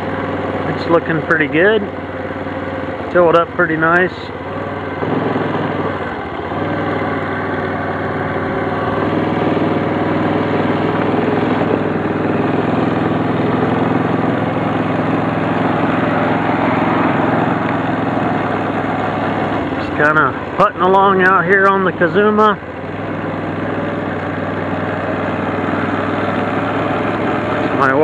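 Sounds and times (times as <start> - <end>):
quad bike engine putting: 0.0 - 28.0.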